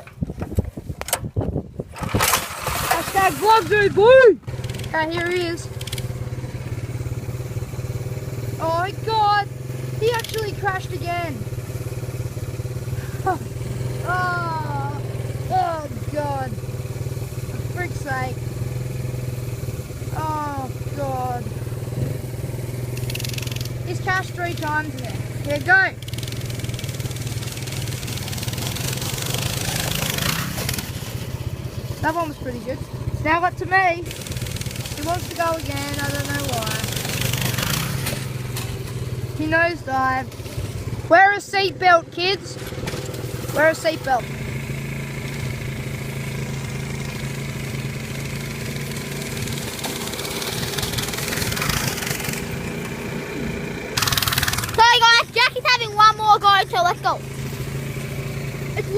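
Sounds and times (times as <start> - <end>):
motorbike engine revving: 0.0 - 58.9.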